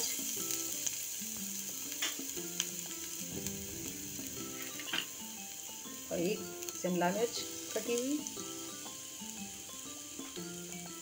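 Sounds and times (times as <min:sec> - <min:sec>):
onion sizzling in hot oil: 0:00.0 - 0:11.0
soft background music: 0:00.0 - 0:11.0.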